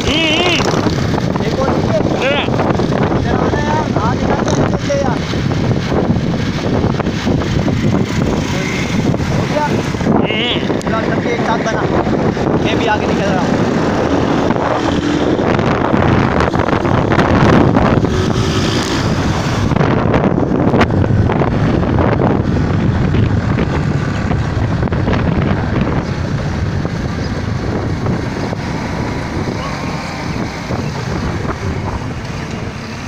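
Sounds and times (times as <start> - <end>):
motorcycle engines running: 0.0 - 33.0
wind buffeting microphone: 0.0 - 33.0.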